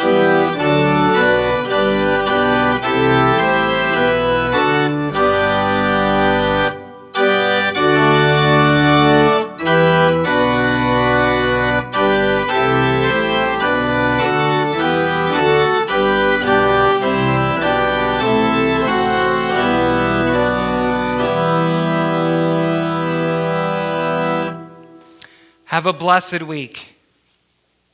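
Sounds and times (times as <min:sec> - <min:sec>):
organ chords: 0:00.0 - 0:26.9.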